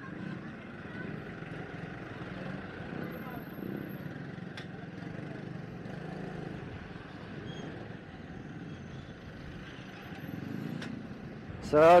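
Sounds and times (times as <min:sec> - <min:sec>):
hum of traffic: 0:00.0 - 0:12.0
small motorcycle engine running: 0:00.0 - 0:12.0.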